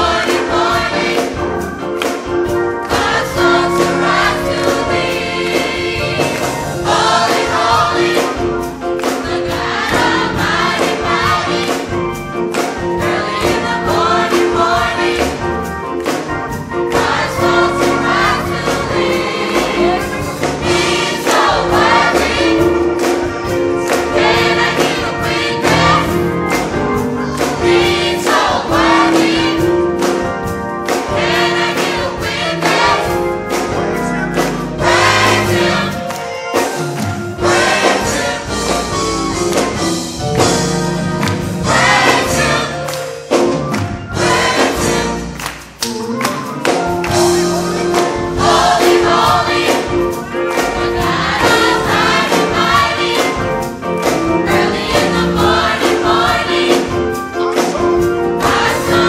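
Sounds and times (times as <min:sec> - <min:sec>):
gospel choir singing: 0:00.0 - 0:59.0
instrumental accompaniment: 0:00.0 - 0:59.0.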